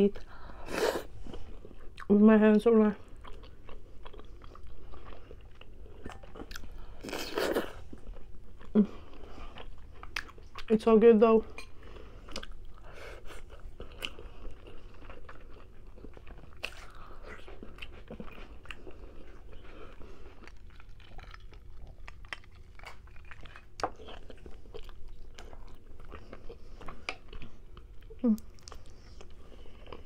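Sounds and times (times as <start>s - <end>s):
chewing chicken: 3.0s - 10.8s, 11.8s - 30.0s.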